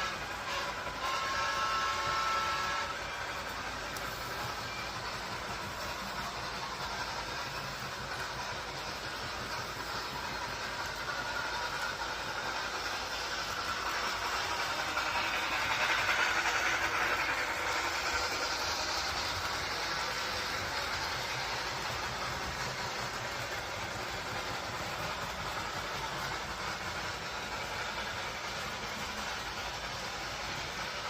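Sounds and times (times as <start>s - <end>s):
train rolling along track: 0.0s - 31.0s.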